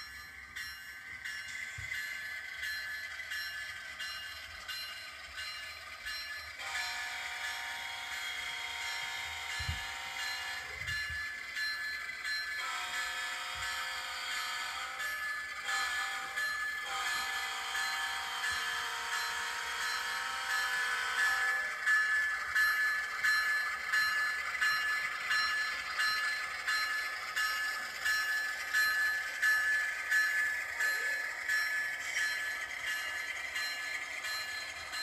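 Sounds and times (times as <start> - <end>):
train wheels clicking over track joints: 0.0 - 35.0.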